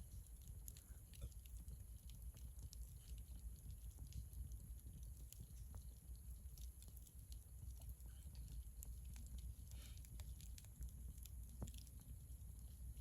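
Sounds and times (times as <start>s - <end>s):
campfire crackling: 0.0s - 13.0s
low steady rumble: 0.0s - 13.0s.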